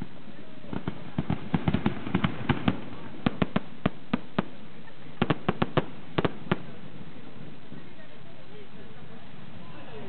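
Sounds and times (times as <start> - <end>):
fireworks bursting with sharp bangs: 0.0 - 9.6.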